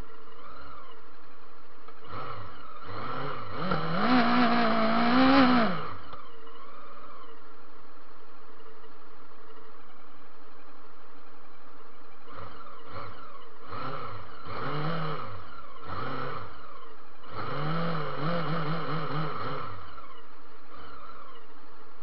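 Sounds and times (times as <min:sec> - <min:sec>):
vehicle engine revving: 0:00.0 - 0:07.8, 0:09.4 - 0:22.0
faint steady whine: 0:00.0 - 0:22.0.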